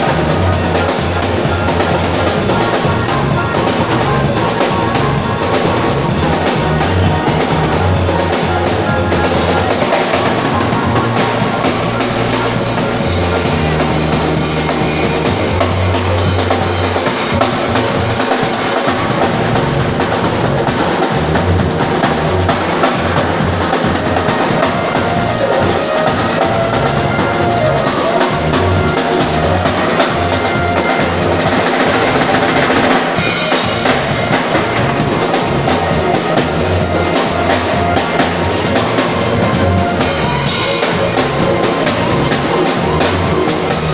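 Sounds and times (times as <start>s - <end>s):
bass line low notes: 0.0s - 43.9s
drum kit groove: 0.0s - 43.9s.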